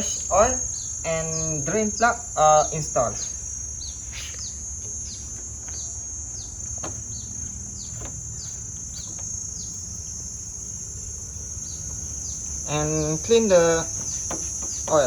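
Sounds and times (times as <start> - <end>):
bird chirping: 0.0 - 15.0
insect drone: 0.0 - 15.0.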